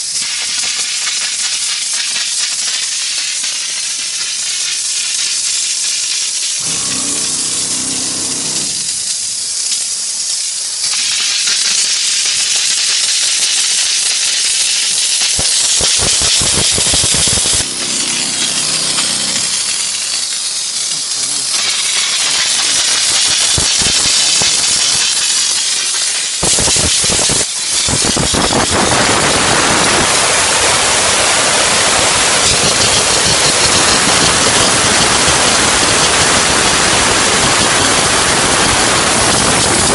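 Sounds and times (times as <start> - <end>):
steam jet hissing: 0.0 - 39.9.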